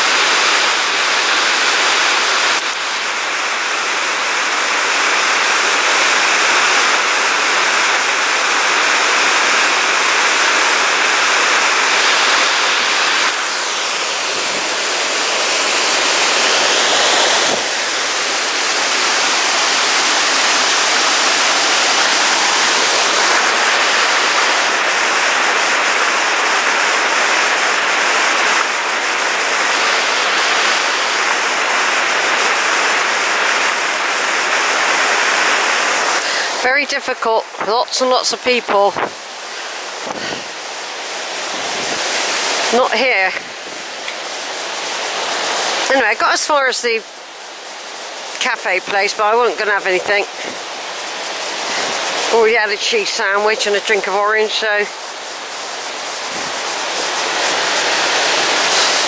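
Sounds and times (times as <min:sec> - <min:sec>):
river rushing over rocks: 0:00.0 - 0:59.0
waterfall pouring: 0:00.0 - 0:59.0.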